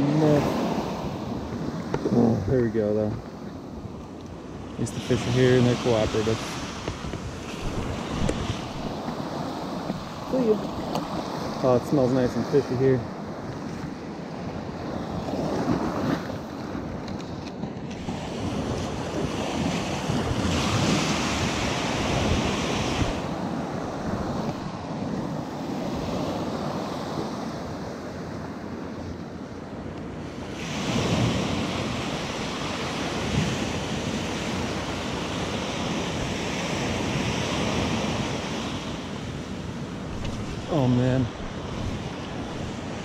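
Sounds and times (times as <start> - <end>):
waves breaking on sand: 0.0 - 17.1, 17.8 - 43.0.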